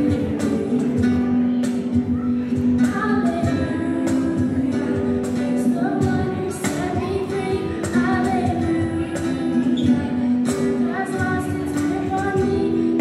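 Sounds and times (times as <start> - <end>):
acoustic guitar: 0.0 - 13.0
woman singing: 0.0 - 13.0.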